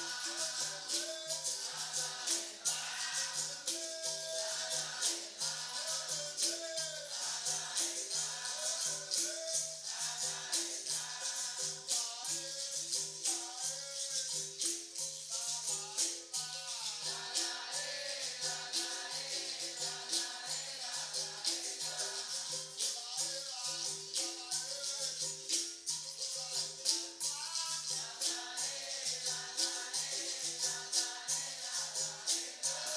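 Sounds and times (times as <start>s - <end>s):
shaker: 0.0s - 32.9s
tambourine jingling: 0.0s - 32.9s
voices singing: 0.0s - 32.9s.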